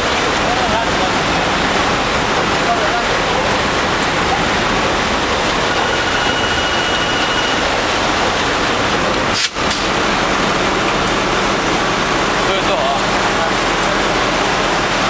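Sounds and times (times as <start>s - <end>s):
engine room machinery roar: 0.0s - 15.0s.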